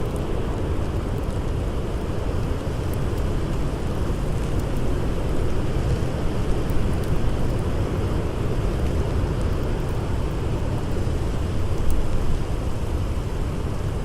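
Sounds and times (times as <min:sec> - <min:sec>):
faint campfire crackles: 0:00.0 - 0:14.0
howling blizzard wind: 0:00.0 - 0:14.0.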